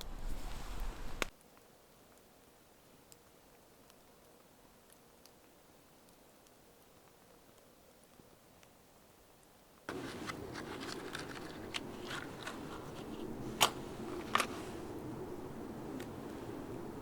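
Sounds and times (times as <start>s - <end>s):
campfire crackling: 0.4s - 17.0s.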